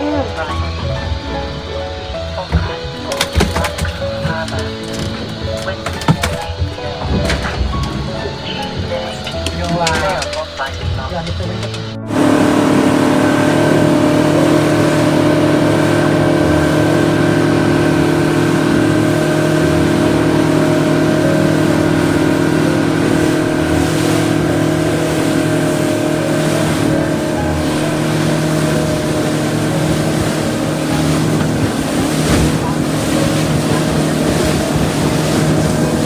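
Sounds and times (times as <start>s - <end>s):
outboard motor running: 0.0s - 36.0s
water rushing past hull: 0.0s - 36.0s.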